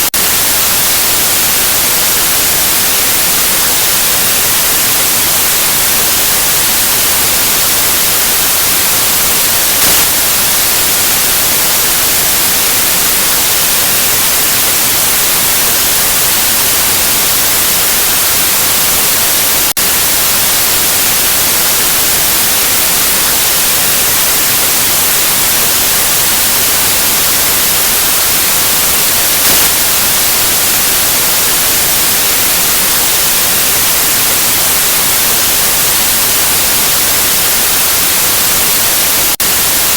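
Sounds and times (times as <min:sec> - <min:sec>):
loud white noise hiss: 0:00.0 - 0:39.9.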